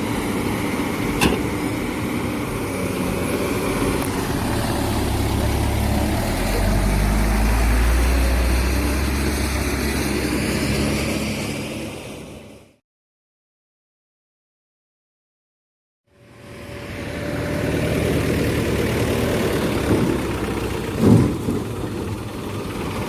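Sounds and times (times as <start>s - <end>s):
diesel engine low rumble: 0.0s - 12.8s, 16.1s - 23.0s.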